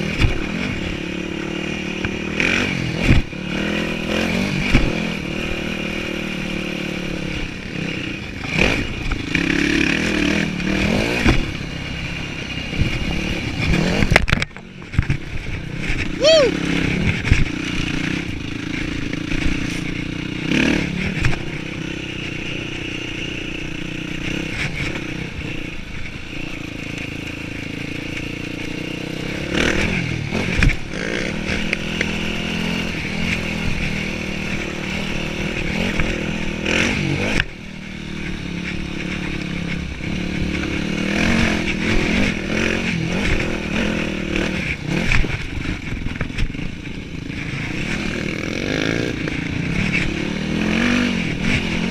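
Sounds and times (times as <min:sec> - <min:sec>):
dirt bike engine revving: 0:00.0 - 0:51.9
knocks and rattles from bike: 0:00.0 - 0:51.9.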